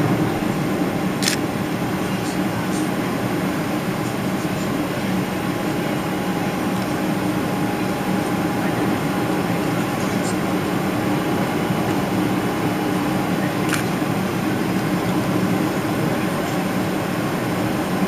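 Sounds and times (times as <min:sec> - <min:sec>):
airplane cabin drone: 0:00.0 - 0:18.0.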